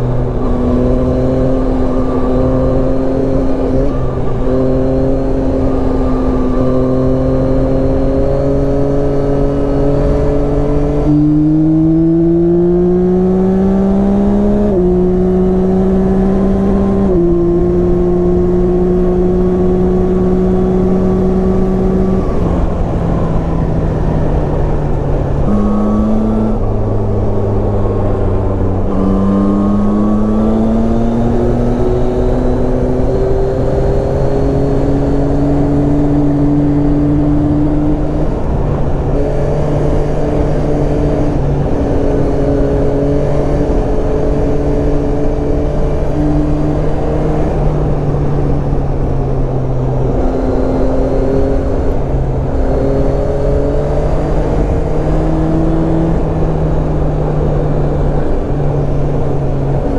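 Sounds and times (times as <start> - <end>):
road noise: 0.0 - 59.9
wind noise: 0.0 - 59.9.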